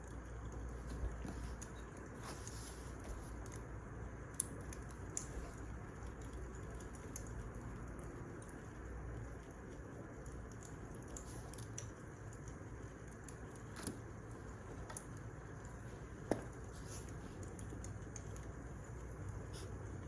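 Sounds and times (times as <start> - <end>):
fire crackles and pops: 0.0 - 20.0
wood fire burning: 0.0 - 20.0.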